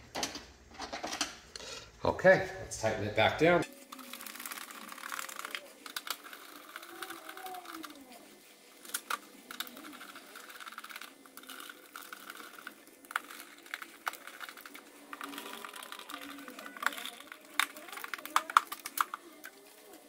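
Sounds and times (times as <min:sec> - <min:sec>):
screwdriver scraping: 0:03.6 - 0:20.0.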